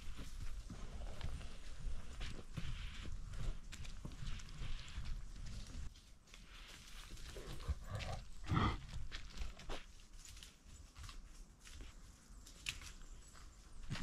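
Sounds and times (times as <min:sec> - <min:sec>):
dog paws rustling dry leaves: 0:00.0 - 0:14.0.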